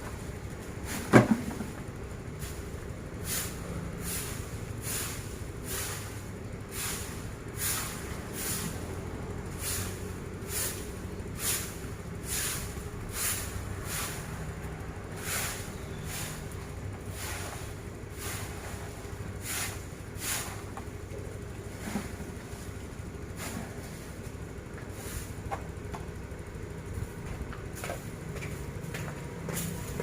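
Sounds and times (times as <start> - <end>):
steady low hum: 0.0 - 30.0
broom sweeping leaves: 0.1 - 25.5, 27.8 - 30.0.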